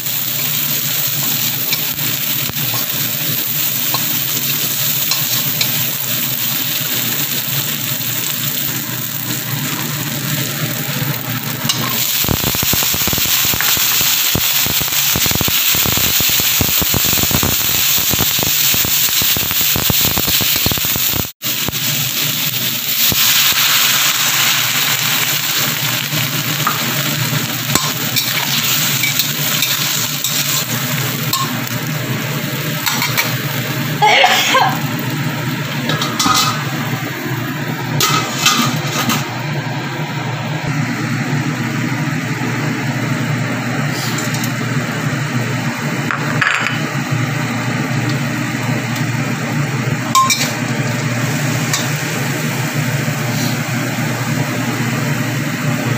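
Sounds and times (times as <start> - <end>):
beans sizzling in a wok: 0.0 - 55.9.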